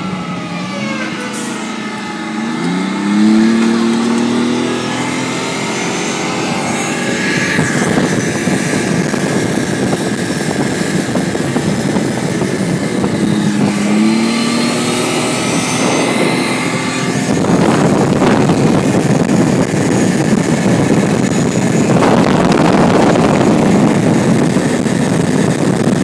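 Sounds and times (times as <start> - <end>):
low tone: 0.0 - 25.3
armoured vehicle engine running: 0.0 - 26.0
wind buffeting microphone: 1.3 - 26.0.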